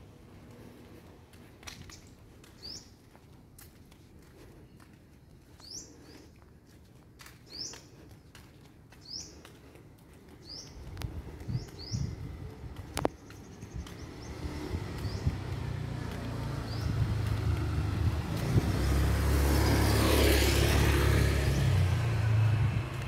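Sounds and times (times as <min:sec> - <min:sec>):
road vehicle rumble: 0:00.0 - 0:23.0.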